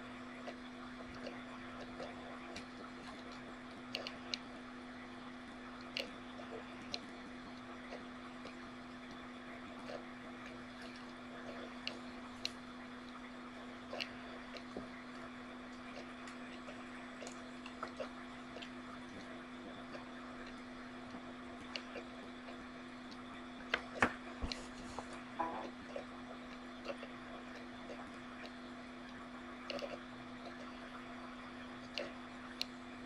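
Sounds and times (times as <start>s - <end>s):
microphone hiss and hum: 0.0s - 33.0s.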